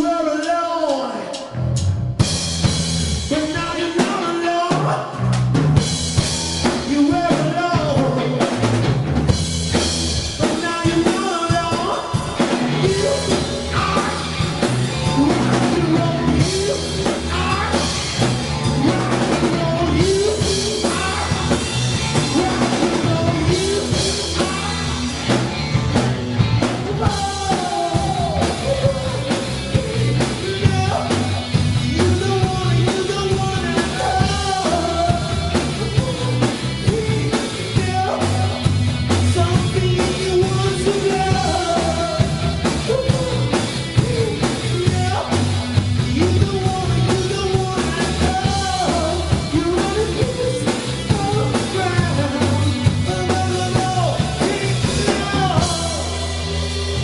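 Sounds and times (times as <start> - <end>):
drum kit beat: 0.0 - 57.0
rock band playing: 0.0 - 57.0.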